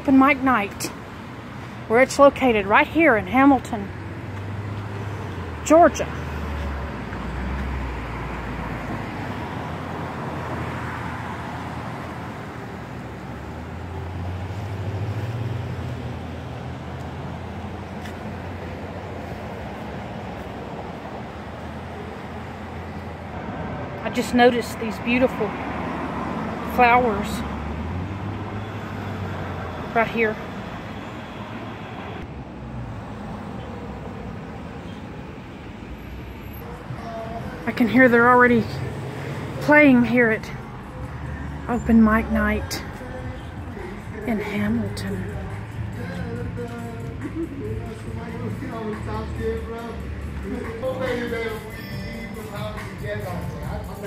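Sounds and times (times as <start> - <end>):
passing car traffic: 0.0 - 54.0.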